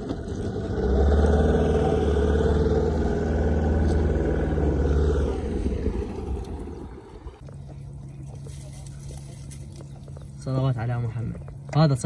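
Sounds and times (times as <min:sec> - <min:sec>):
outboard motor drone: 0:00.0 - 0:12.0.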